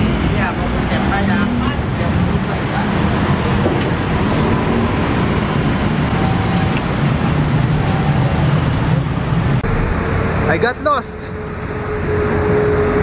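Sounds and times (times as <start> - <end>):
cars passing: 0.0 - 13.0
motorbikes passing: 0.0 - 13.0.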